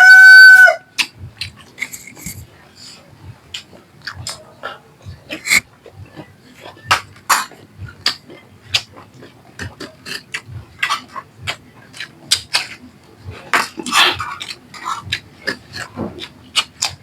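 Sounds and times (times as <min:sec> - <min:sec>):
open-mouthed chewing and crunching: 0:00.1 - 0:17.0.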